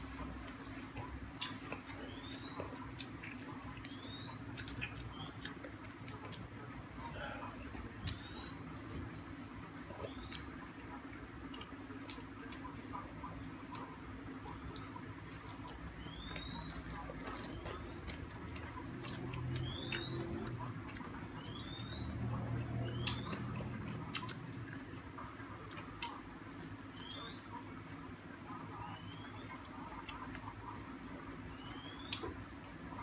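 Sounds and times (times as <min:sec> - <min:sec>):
person chewing: 0:00.0 - 0:27.1.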